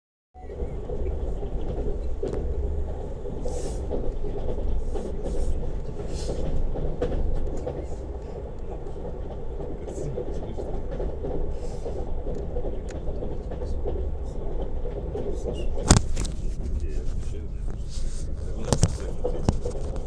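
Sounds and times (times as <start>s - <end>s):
train wheels rumbling on rails: 0.4s - 20.0s.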